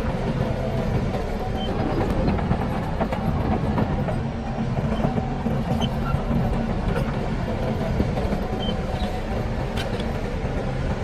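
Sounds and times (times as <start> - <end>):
bulldozer diesel engine: 0.0 - 11.0
steel tracks clattering: 0.0 - 11.0.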